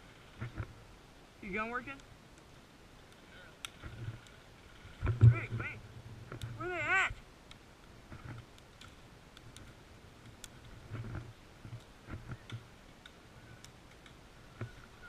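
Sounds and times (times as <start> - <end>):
faint clicks and ticks: 1.9 - 6.6, 7.4 - 15.0.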